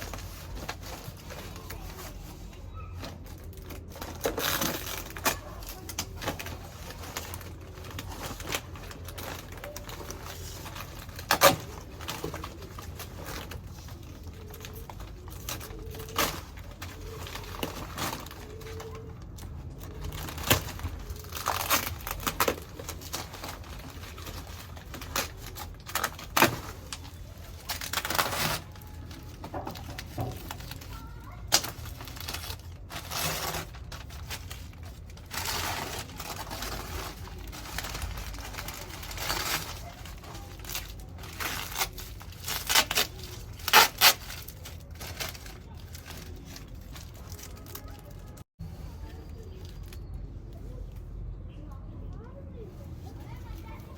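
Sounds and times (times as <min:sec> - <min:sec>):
packaging crinkling and tearing: 0:00.0 - 0:48.5.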